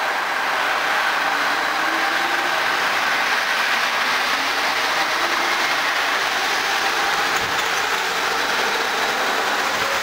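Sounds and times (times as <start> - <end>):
monorail train motors running: 0.0 - 10.0.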